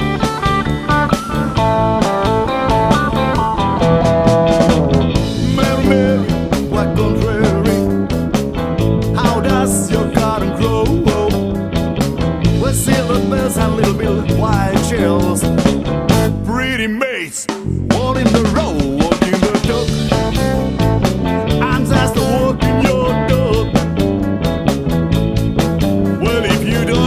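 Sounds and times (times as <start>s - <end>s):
electric guitar lead: 0.0s - 16.5s, 19.6s - 27.0s
bass and drums: 0.0s - 27.0s.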